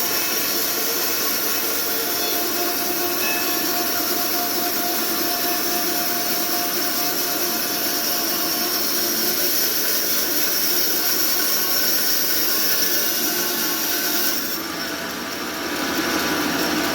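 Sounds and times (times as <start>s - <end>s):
band saw running with whine: 0.0s - 16.9s.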